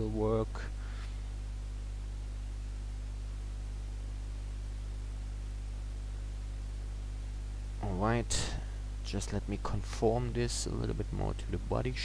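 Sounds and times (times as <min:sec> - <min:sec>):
faint hiss: 0:00.0 - 0:12.0
low electrical hum: 0:00.0 - 0:12.0.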